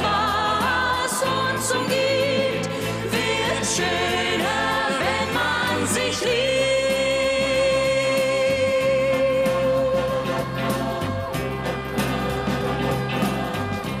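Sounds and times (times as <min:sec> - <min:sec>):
man and woman singing: 0:00.0 - 0:11.5.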